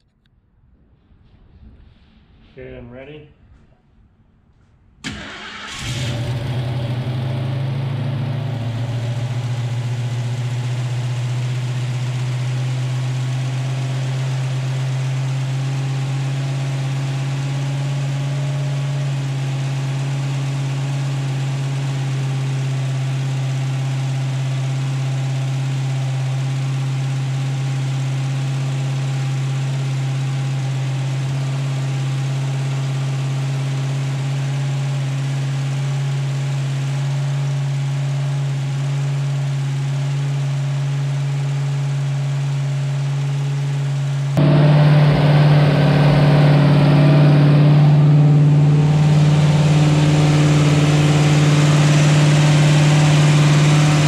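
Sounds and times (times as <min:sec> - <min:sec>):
car engine starting and running: 0:05.0 - 0:54.0.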